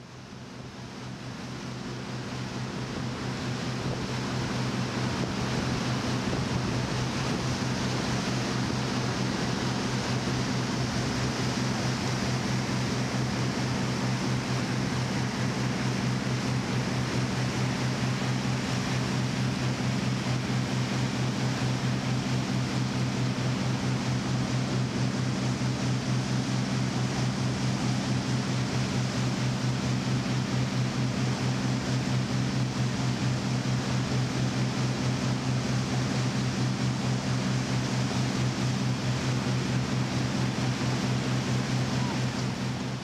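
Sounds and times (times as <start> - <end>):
outboard boat engine droning: 0.0 - 43.0.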